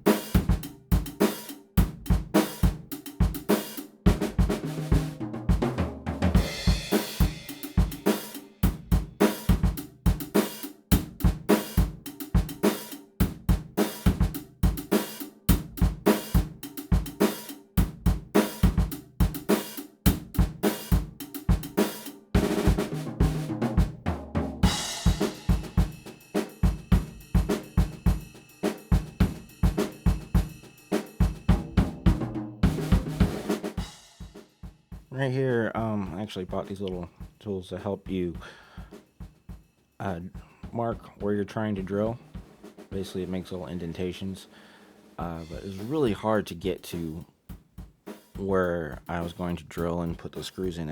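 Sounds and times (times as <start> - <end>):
drum kit beat: 0.0 - 50.9.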